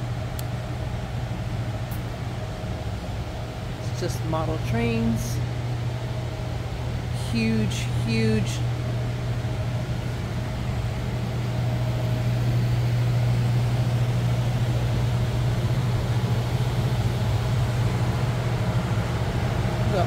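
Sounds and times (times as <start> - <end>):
air conditioning unit humming: 0.0 - 20.0.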